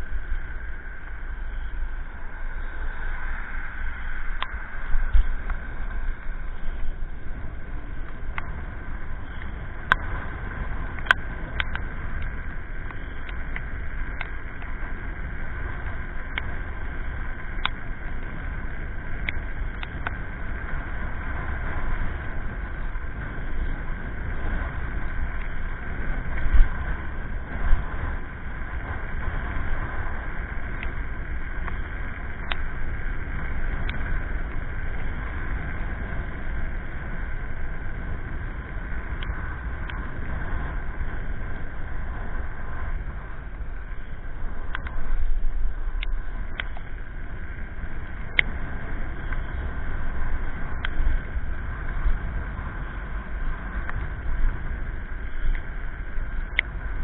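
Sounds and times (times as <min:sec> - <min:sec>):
faint high whine: 0:00.0 - 0:57.0
wind buffeting microphone: 0:00.0 - 0:57.0.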